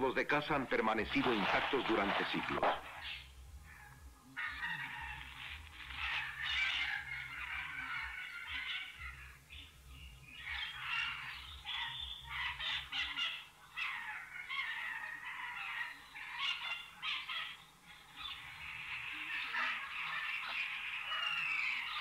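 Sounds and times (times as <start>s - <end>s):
high wavering animal calls: 1.1s - 22.0s.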